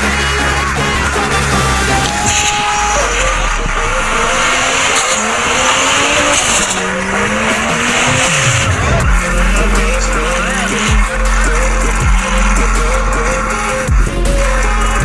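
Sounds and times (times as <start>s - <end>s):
loud background noise: 0.0s - 15.0s
monster truck engine revving: 0.0s - 15.0s.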